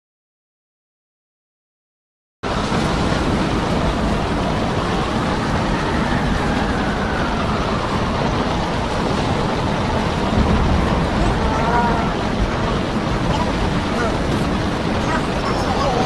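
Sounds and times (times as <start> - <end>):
heavy sea rumble: 2.4 - 16.0
storm wind blowing on microphone: 2.4 - 16.0.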